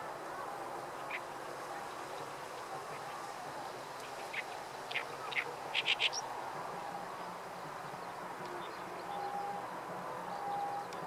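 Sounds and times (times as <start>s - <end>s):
bird singing: 0.3s - 11.0s.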